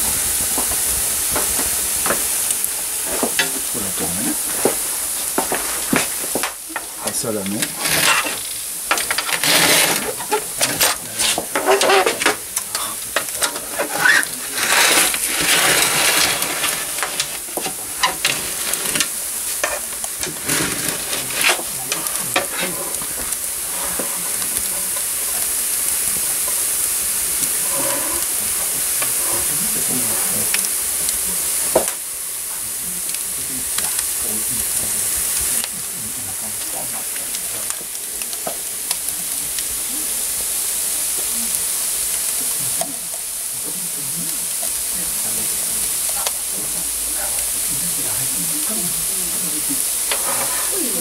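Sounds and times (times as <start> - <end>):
batter sizzling in a pan: 0.0 - 51.0
burning wood crackles: 0.0 - 51.0.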